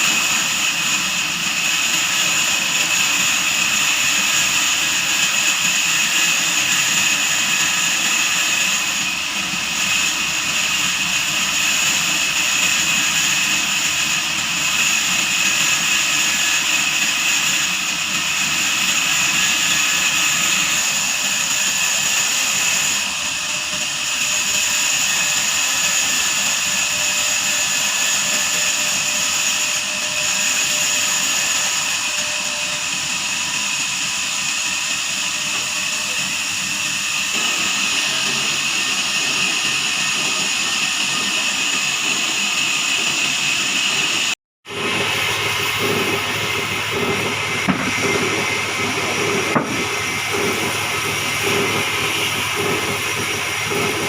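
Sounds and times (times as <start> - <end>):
band sawmill whining: 0.0 - 54.0.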